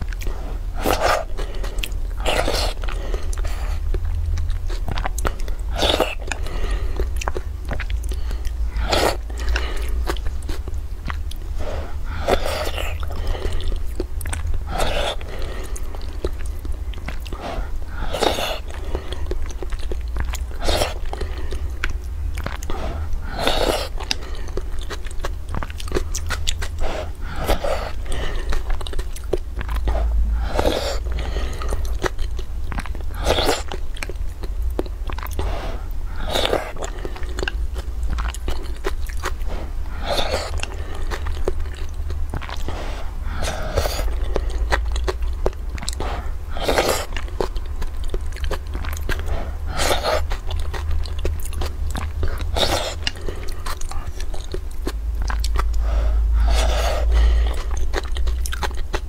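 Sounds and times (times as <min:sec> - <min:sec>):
chewing and wet mouth clicks: 0:00.0 - 0:59.0
slurping: 0:00.0 - 0:59.0
steady low hum: 0:00.0 - 0:59.0.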